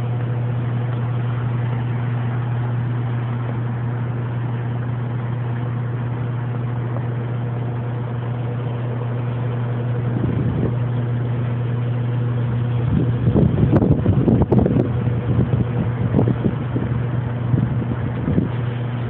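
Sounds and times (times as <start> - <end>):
low engine-like hum: 0.0 - 19.0.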